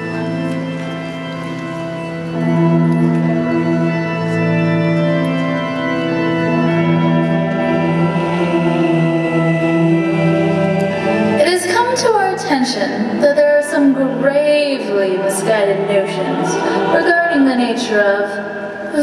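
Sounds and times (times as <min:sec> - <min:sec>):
organ long held chords: 0:00.0 - 0:19.0.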